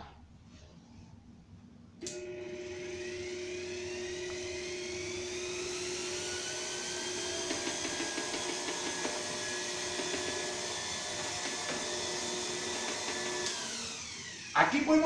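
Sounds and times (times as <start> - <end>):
electric blower running: 2.0 - 15.0.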